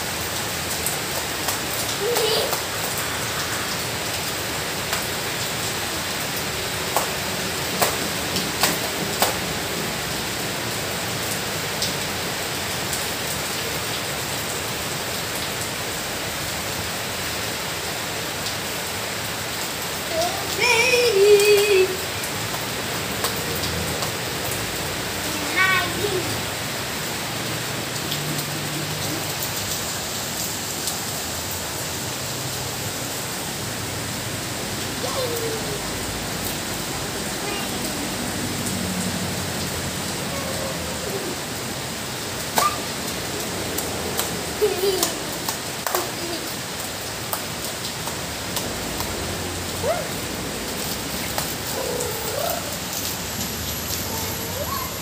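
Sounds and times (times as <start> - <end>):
rain splashing on tiled balcony: 0.0 - 55.0.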